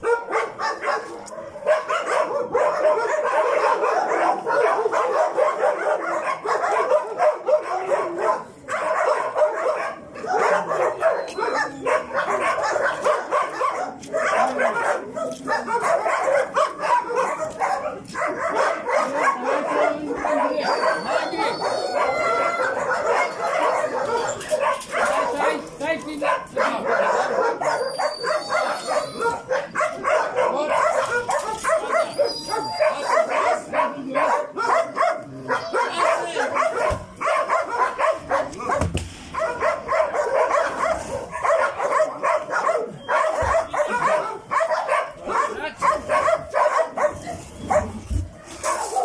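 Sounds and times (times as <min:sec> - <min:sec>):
many dogs barking and howling: 0:00.0 - 0:49.0.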